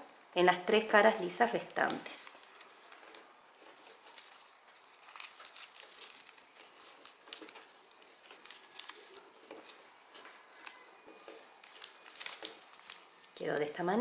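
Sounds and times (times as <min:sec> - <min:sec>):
paper rustling and crinkling: 0:01.5 - 0:13.9.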